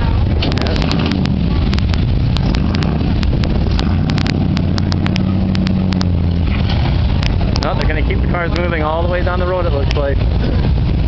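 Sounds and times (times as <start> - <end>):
car engine running low: 0.0 - 11.0.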